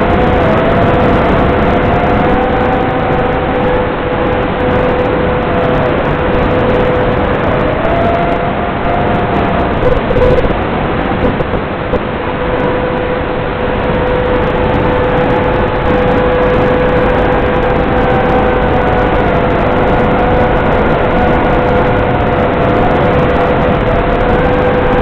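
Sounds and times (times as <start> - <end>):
drone motors whining: 0.0 - 25.0
wind noise: 0.0 - 25.0.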